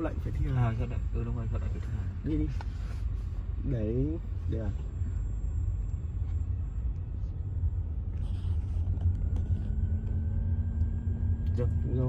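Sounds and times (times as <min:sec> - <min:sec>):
car engine and tyres rumbling: 0:00.0 - 0:12.0
faint thin whine: 0:00.0 - 0:12.0.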